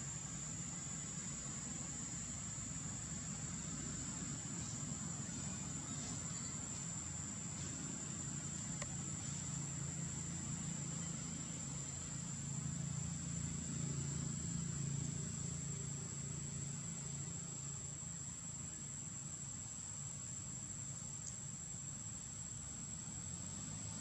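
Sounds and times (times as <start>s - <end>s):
thin high-pitched whine: 0.0s - 19.4s.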